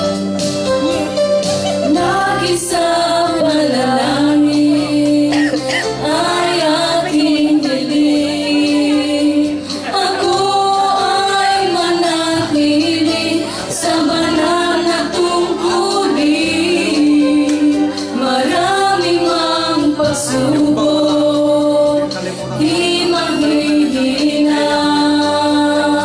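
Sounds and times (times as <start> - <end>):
instrumental accompaniment held notes: 0.0 - 26.0
women singing together: 1.6 - 26.0.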